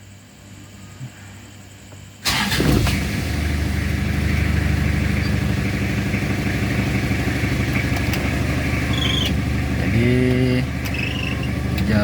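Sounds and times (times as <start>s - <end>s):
diesel engine idling: 2.2s - 12.0s.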